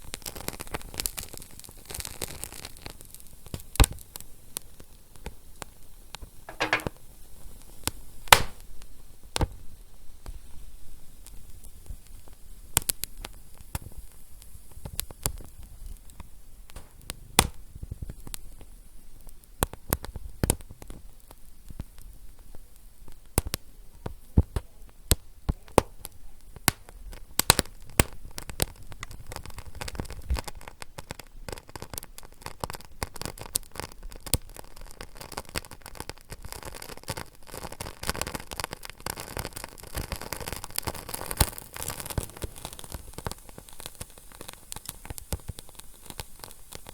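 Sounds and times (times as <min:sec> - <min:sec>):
wood fire crackling and popping: 0:00.0 - 0:07.0, 0:07.6 - 0:46.9
low steady hiss: 0:00.0 - 0:46.9.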